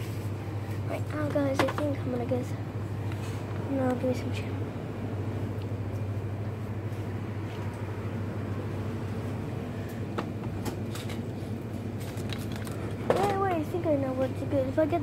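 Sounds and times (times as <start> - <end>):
shop interior hum: 0.0 - 15.0.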